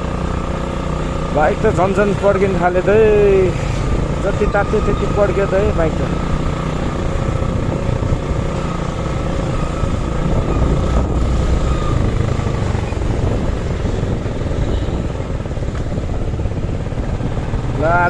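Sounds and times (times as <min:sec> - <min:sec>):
motorcycle engine running: 0:00.0 - 0:18.0
road and wind rumble: 0:00.0 - 0:18.0.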